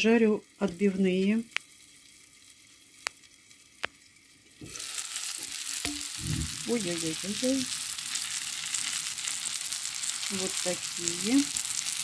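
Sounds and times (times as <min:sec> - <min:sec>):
chops sizzling in oil: 0:00.0 - 0:12.0.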